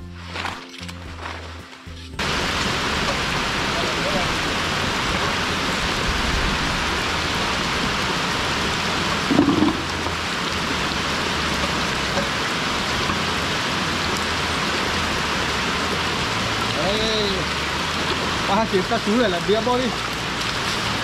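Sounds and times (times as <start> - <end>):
heavy rain falling: 2.2 - 21.0.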